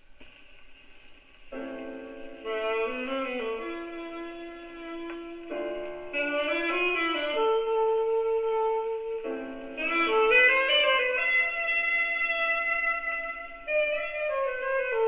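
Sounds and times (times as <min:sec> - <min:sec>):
band playing on gramophone record: 0:00.0 - 0:15.0.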